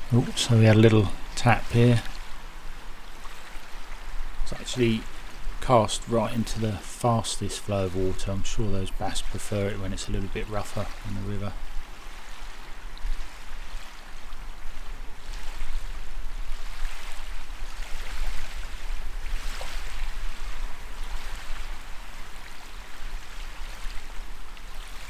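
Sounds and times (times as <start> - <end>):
river water rushing and lapping: 0.0 - 25.0.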